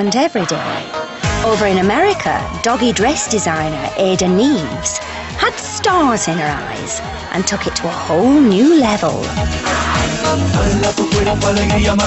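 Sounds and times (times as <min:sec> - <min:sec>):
dance music with deep bass: 0:00.0 - 0:12.0.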